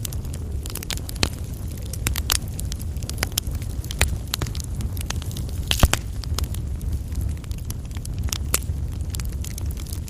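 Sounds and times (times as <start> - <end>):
coal fire crackling: 0.0 - 10.0
low rumble of flames: 0.0 - 10.0.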